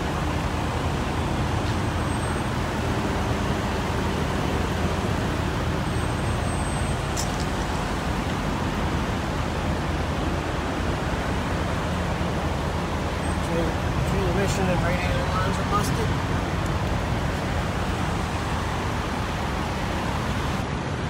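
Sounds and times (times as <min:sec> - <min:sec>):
diesel truck engines idling: 0:00.0 - 0:21.0.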